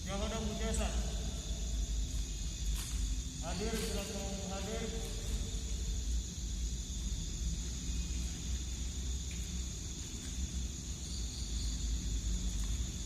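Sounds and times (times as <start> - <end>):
night insects droning: 0.0 - 13.0.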